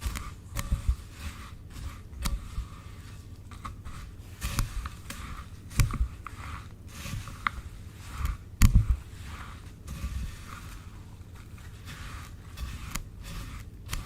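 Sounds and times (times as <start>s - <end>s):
soft low thumps: 0.0s - 14.0s.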